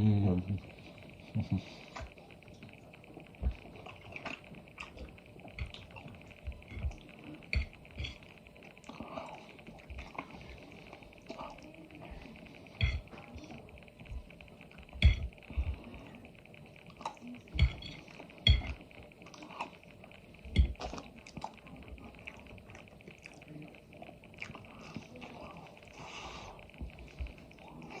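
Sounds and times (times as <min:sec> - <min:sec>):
person eating: 0:03.4 - 0:13.7, 0:14.6 - 0:28.0.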